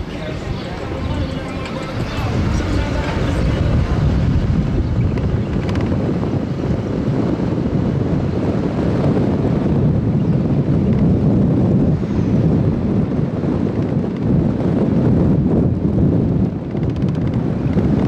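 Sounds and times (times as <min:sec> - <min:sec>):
city street noise: 0:00.0 - 0:18.0
wind buffeting microphone: 0:00.0 - 0:18.0.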